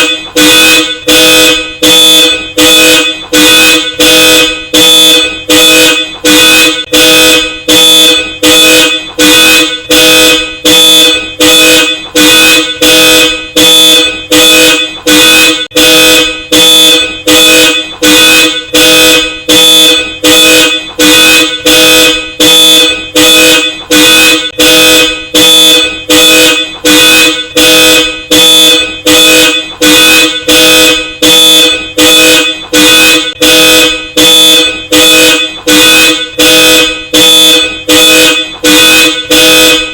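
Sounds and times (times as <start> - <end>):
car alarm horn honking: 0.0 - 39.9.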